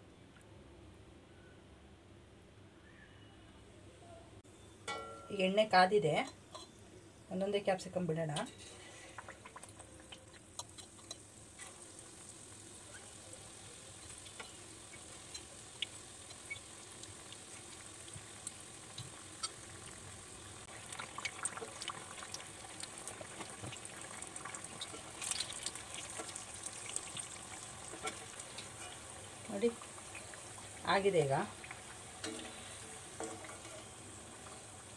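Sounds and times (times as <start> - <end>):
deep-frying sizzle with pops: 4.8 - 34.9.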